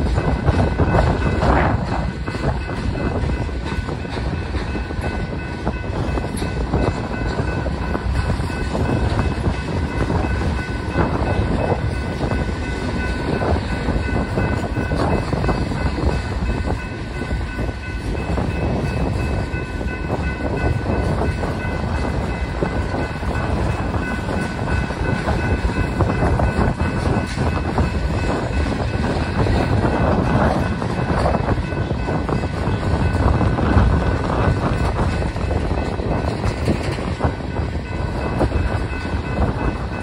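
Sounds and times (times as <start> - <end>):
freight train wheels clattering: 0.0 - 40.0.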